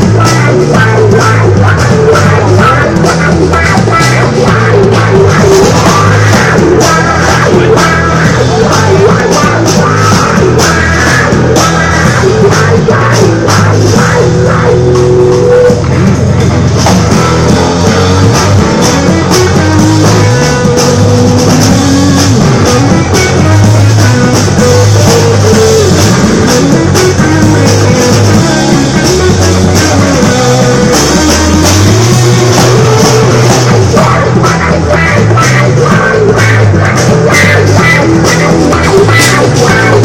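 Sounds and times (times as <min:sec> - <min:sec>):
bass line: 0:00.0 - 0:40.0
drum kit beat: 0:00.0 - 0:40.0
electric guitar: 0:00.0 - 0:40.0.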